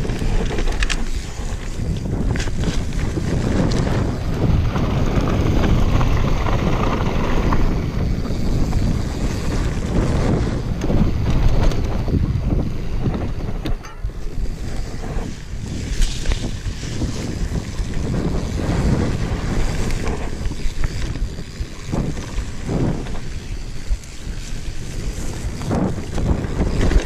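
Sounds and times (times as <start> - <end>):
bike rattling: 0.0 - 27.0
bike tyres crunching on gravel: 0.0 - 27.0
wind on microphone: 0.0 - 27.0.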